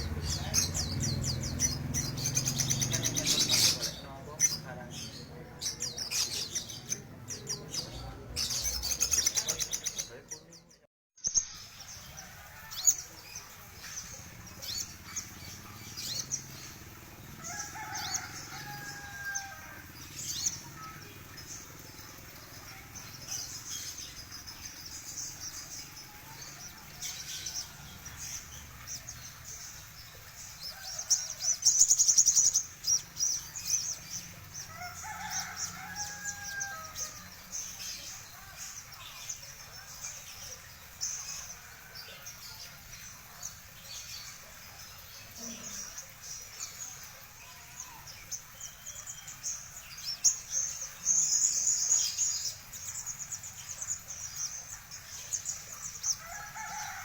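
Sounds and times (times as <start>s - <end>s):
bird singing chattering phrases: 0.0s - 10.8s, 12.8s - 41.6s, 42.4s - 56.2s.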